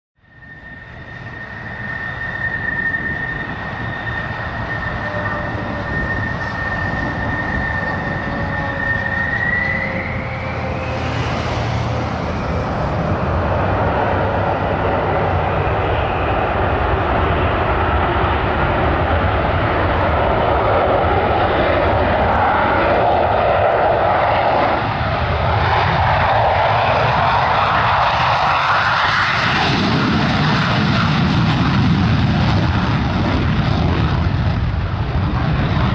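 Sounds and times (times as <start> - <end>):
jet engine spooling up: 0.2 - 35.9.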